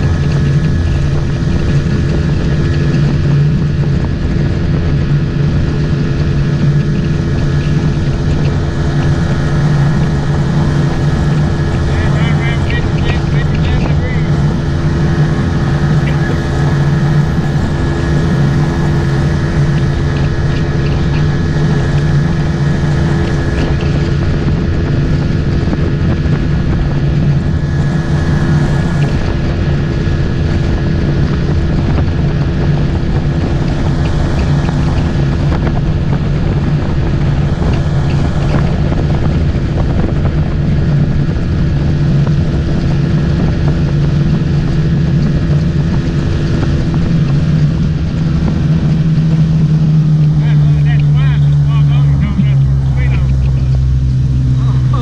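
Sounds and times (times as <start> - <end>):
hull rushing over water: 0.0 - 55.0
motorboat engine running: 0.0 - 55.0.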